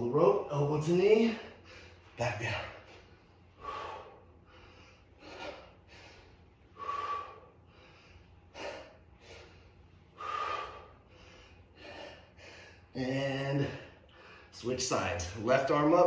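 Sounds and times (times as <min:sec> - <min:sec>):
man breathing hard: 0:01.2 - 0:14.6.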